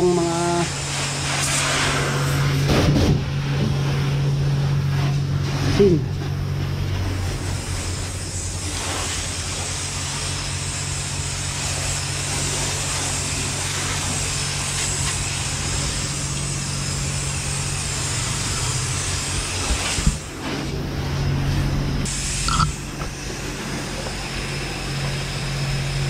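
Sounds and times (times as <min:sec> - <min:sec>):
low steady hum: 0:00.0 - 0:26.0
pressure washer spraying water: 0:00.0 - 0:26.0.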